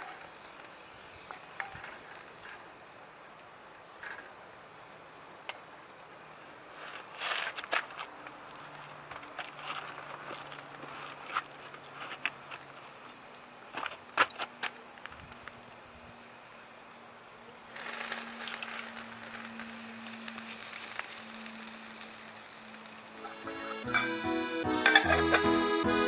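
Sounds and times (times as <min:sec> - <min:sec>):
faint steady background noise: 0:00.0 - 0:26.0.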